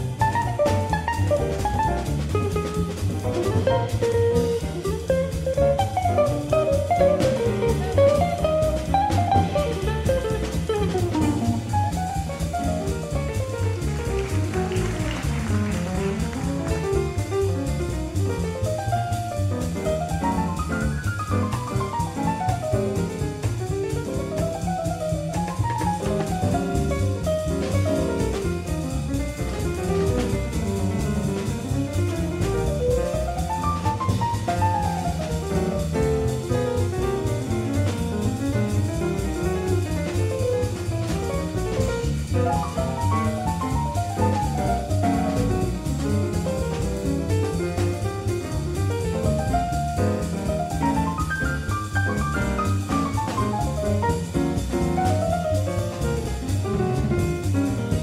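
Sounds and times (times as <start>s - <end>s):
acoustic piano: 0.0s - 58.0s
double bass: 0.0s - 58.0s
drum kit: 0.0s - 58.0s.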